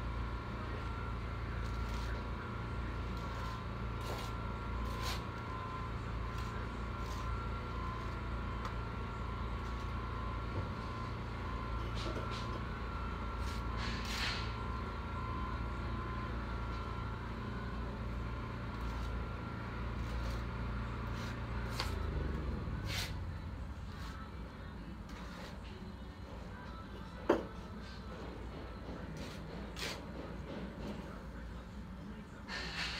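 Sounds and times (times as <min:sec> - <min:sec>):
machinery humming: 0:00.0 - 0:32.9.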